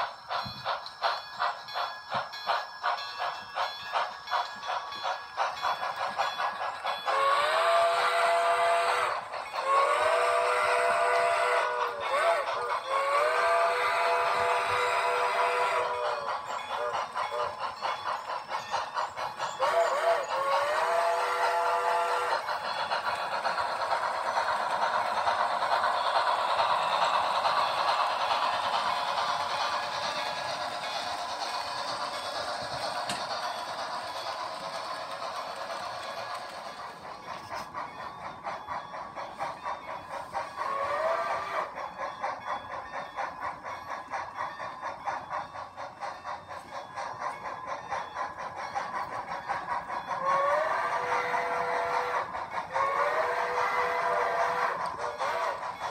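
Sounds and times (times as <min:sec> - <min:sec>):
model train clattering on track: 0:00.0 - 0:55.9.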